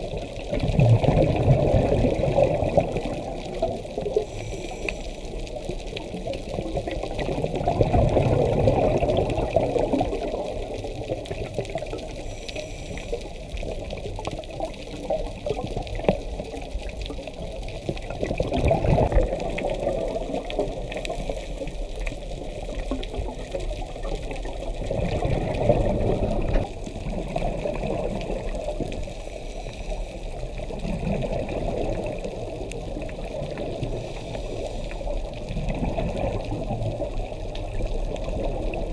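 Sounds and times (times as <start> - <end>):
muffled water rush: 0.0 - 38.9
regulator bubbling underwater: 0.0 - 38.9.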